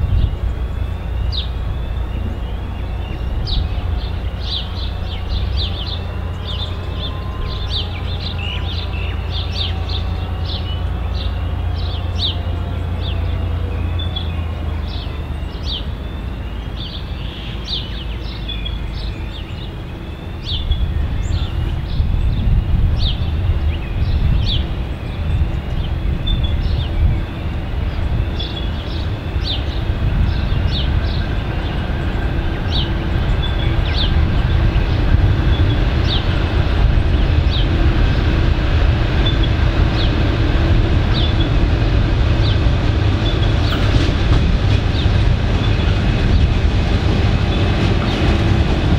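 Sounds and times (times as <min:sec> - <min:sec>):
bird chirping: 0:00.0 - 0:38.4, 0:41.0 - 0:46.7
diesel locomotive engine rumbling: 0:00.0 - 0:48.9.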